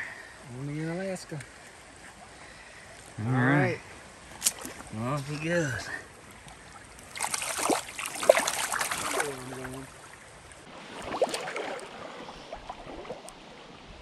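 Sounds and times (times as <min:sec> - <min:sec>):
river current rushing: 0:00.0 - 0:14.0
water splashing: 0:00.9 - 0:14.0.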